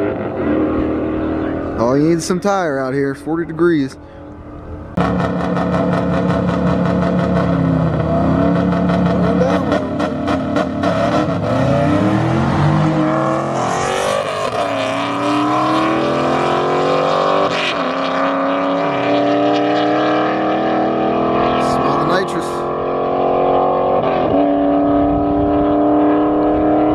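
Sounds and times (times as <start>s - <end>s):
car engines revving hard: 0.0s - 2.5s, 4.9s - 26.9s.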